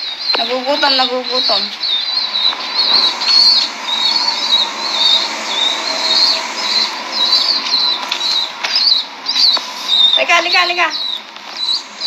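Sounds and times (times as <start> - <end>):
young bird peeping: 0.0 - 12.0.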